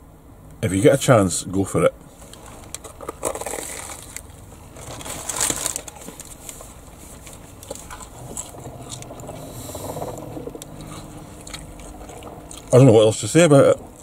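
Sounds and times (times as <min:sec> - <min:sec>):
soft chewing: 0:02.2 - 0:14.0
crispy batter crunching: 0:02.7 - 0:14.0.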